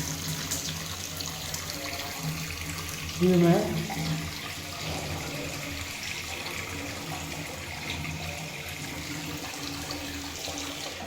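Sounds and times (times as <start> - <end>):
water running from fixture: 0.0 - 11.0.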